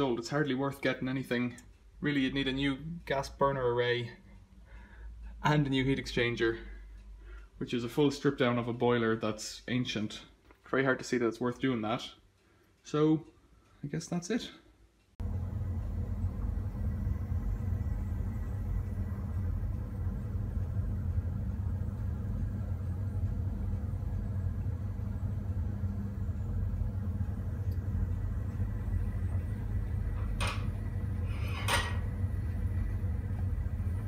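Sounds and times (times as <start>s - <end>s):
gas boiler burner rumbling: 0.0s - 10.4s, 15.2s - 34.0s.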